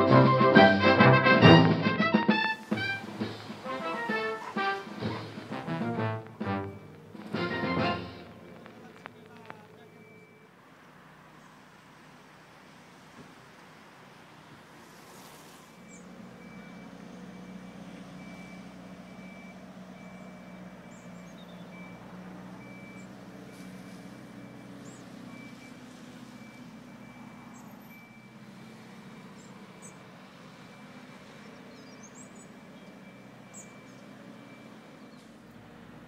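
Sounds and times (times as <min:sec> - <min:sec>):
heavy vehicle engine running: 0:00.0 - 0:36.0.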